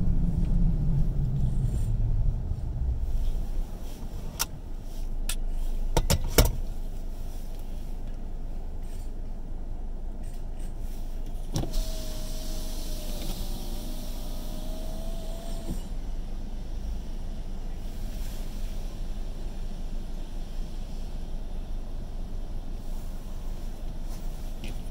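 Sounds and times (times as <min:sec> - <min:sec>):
low steady rumble: 0:00.0 - 0:24.9.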